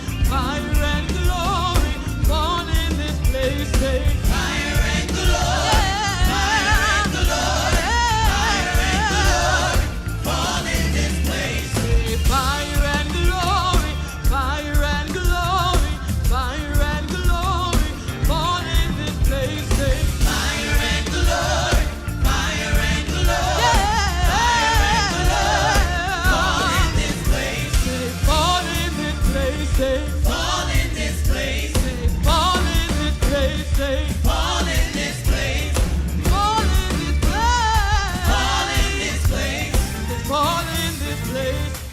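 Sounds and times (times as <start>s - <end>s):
gospel singers with band: 0.0s - 41.9s
steady bass: 0.0s - 41.9s.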